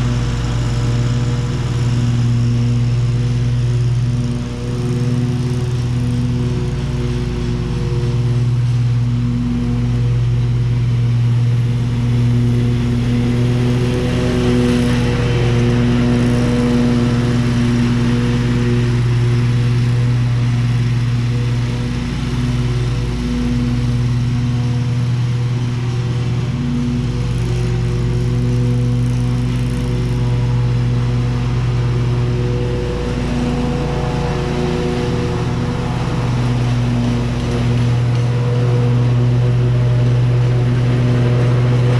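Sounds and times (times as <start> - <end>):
riding mower engine drone: 0.0 - 41.9.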